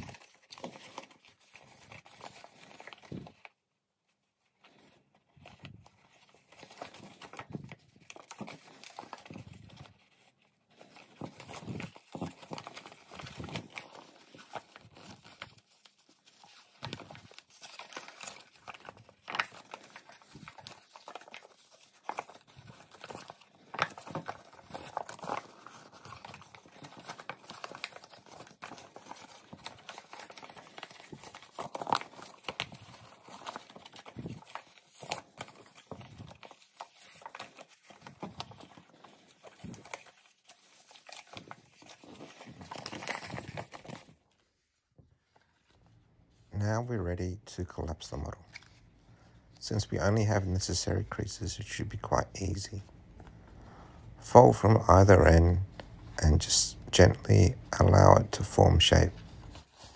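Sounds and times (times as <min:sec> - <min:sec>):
paper crackling and rustling: 0:00.0 - 0:59.9.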